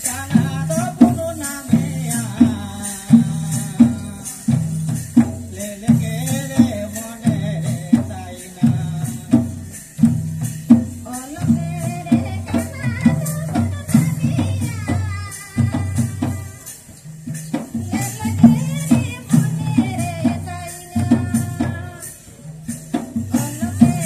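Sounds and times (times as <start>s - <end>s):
hand drums beating: 0.0s - 24.0s
jingling percussion: 0.0s - 24.0s
voices singing: 0.0s - 24.0s.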